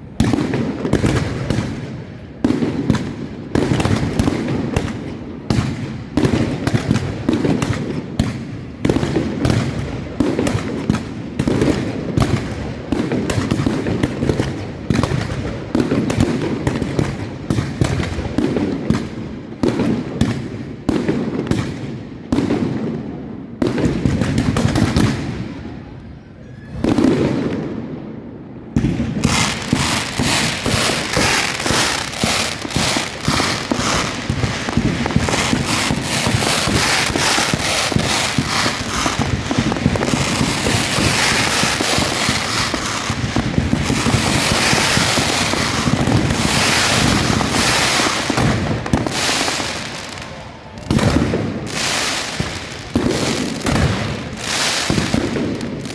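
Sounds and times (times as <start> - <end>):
fireworks bursting: 0.0 - 26.0, 26.7 - 55.9.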